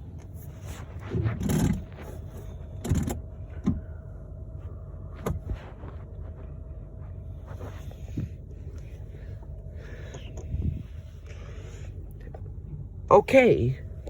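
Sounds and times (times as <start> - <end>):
rustling and scraping: 0.0 - 12.6
truck engine idling: 0.0 - 14.0.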